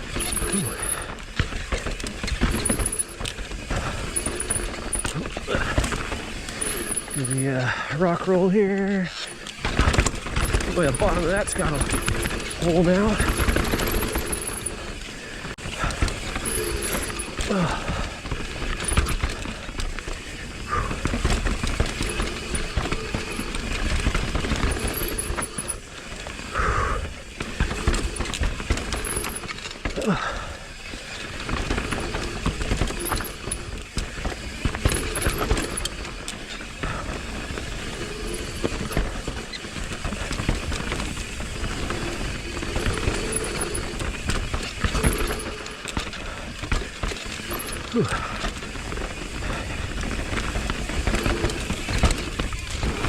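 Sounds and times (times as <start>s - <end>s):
mountain bike rattling over trail: 0.0s - 53.0s.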